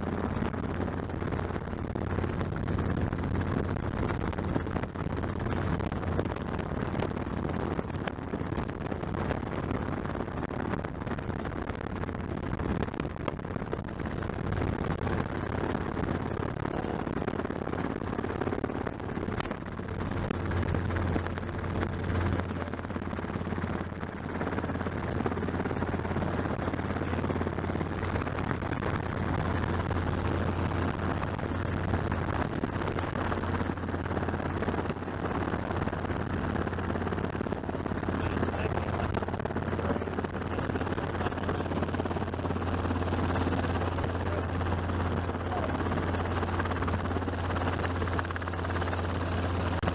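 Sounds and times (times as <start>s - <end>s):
helicopter rotor chop: 0.0s - 49.9s.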